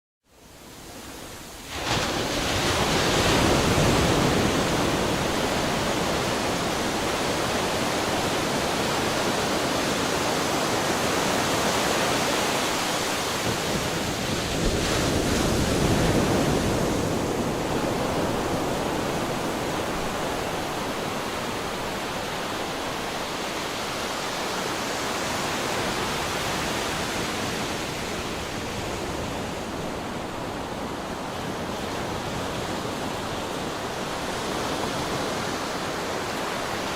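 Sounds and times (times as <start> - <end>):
waves breaking on a shore: 0.4 - 36.9.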